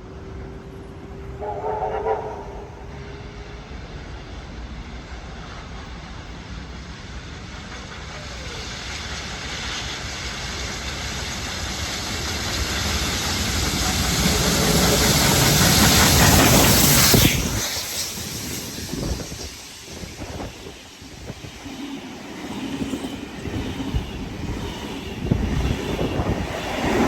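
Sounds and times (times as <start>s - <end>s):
train rumbling and hissing: 0.0s - 27.0s.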